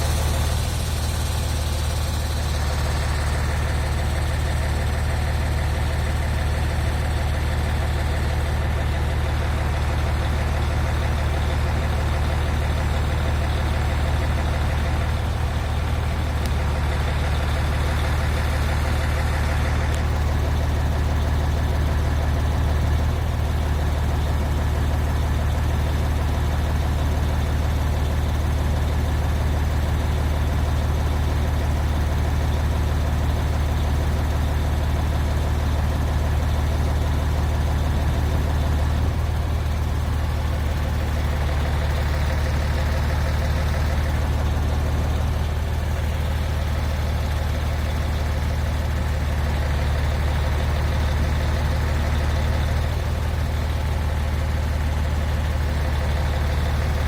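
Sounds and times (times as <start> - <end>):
heavy engine idling: 0.0 - 57.0.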